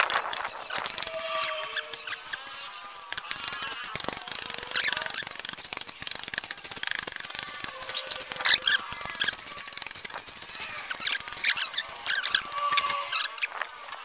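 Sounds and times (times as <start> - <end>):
ice crackling and clicking: 0.0 - 14.0
short high squeaks: 0.5 - 14.0.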